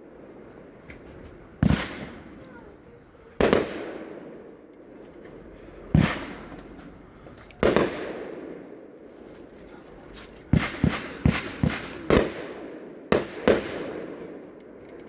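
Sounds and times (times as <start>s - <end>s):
firework booms with echo: 0.0s - 4.9s, 5.8s - 9.2s, 10.4s - 14.7s.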